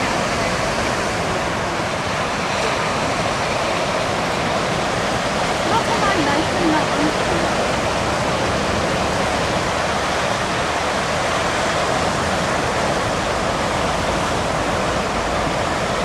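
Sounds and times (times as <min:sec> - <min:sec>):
ocean surf roaring: 0:00.0 - 0:16.0.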